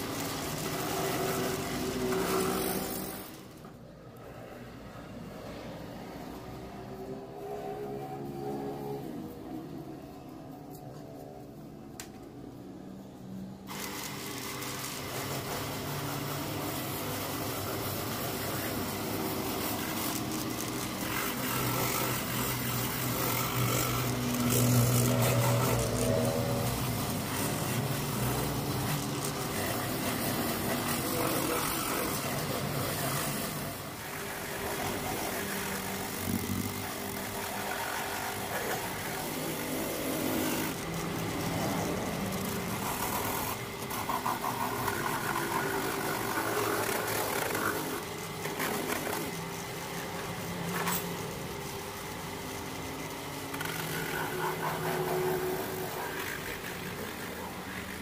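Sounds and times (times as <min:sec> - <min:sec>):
angle grinder on tyre: 0:00.0 - 0:10.0, 0:13.7 - 0:51.6, 0:52.2 - 0:58.0
rotary buffer grinding rubber: 0:00.0 - 0:58.0.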